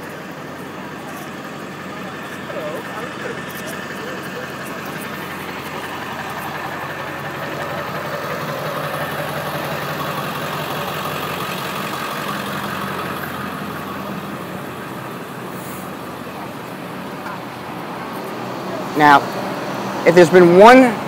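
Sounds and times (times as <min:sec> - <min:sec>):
street noise: 0:00.0 - 0:21.0
vehicle engine idling: 0:00.0 - 0:21.0.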